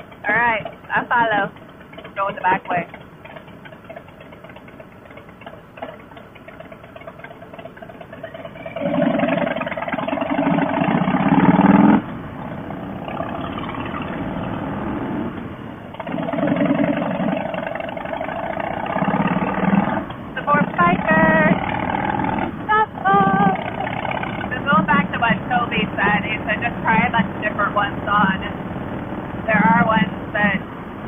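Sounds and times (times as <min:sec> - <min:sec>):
motorcycle engines accelerating: 0:00.0 - 0:31.0.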